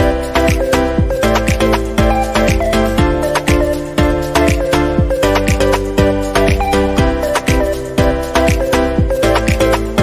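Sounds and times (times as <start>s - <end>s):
afrobeat-style background music: 0.0s - 10.0s.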